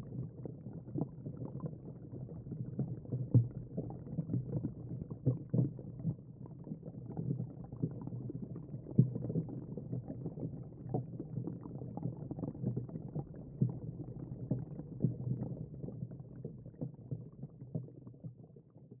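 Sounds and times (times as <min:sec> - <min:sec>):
dull underwater knocks and clicks: 0:00.0 - 0:19.0
muffled underwater water rumble: 0:00.0 - 0:19.0.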